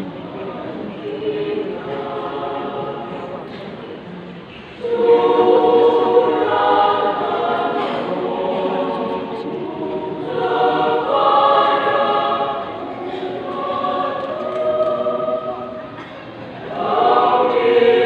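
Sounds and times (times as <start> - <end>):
mixed choir singing: 0.0 - 3.8, 4.7 - 18.0.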